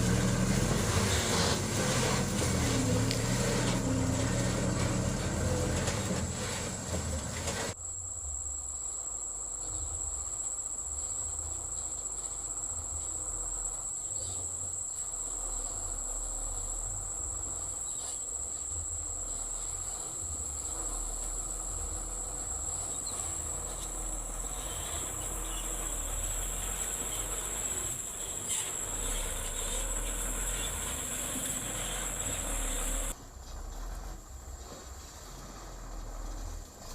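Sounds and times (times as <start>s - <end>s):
vehicle noise: 0.0s - 7.8s, 9.5s - 36.9s
crickets droning: 0.0s - 36.9s
low uneven rumble: 0.0s - 36.9s.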